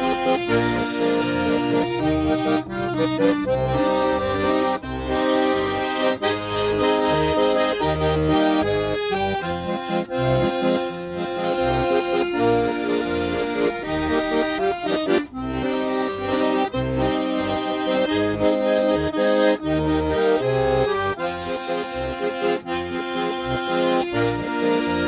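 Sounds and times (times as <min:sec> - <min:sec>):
button accordion melody: 0:00.0 - 0:25.0.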